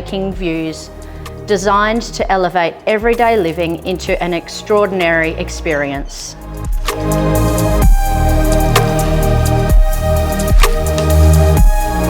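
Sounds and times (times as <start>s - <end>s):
electronic music with synth chords: 0.0s - 12.0s.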